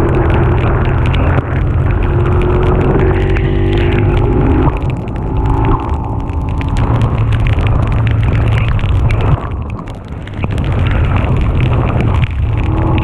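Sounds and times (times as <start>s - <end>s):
raindrops hitting microphone: 0.0s - 13.0s
wind buffeting microphone: 0.0s - 13.0s.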